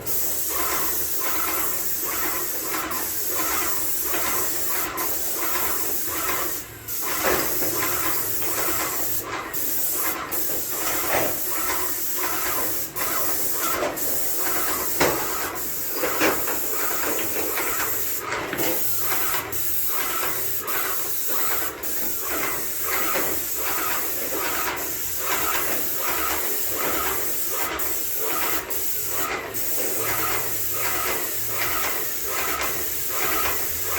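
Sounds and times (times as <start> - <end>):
paint sprayer hissing: 0.0 - 33.9.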